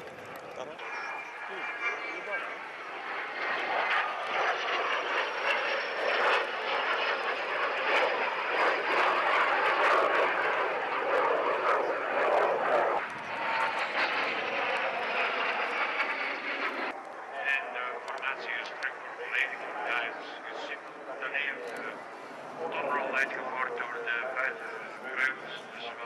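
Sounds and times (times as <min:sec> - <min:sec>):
jet aircraft rush: 0:00.0 - 0:26.0.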